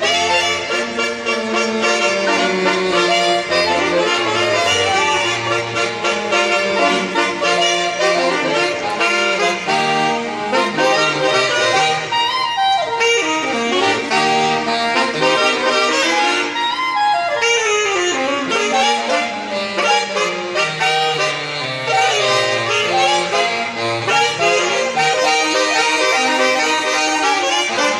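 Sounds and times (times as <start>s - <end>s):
saxophone quartet playing chords: 0.0s - 27.9s.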